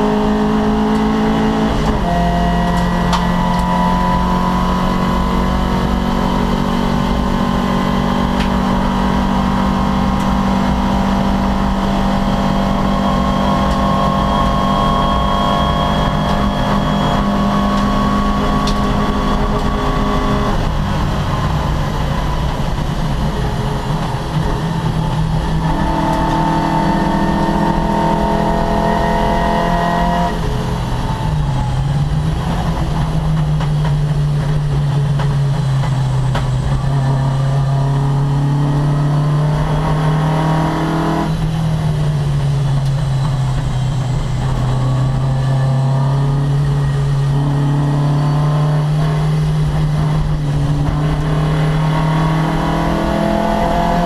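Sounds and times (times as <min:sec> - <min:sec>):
racing car engine at speed: 0:00.0 - 0:54.0.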